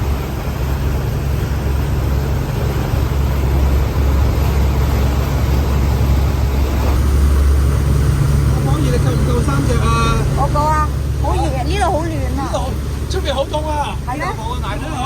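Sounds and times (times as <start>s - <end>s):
boat engine drone: 0.0s - 15.0s
hiss of wind and water: 0.0s - 15.0s.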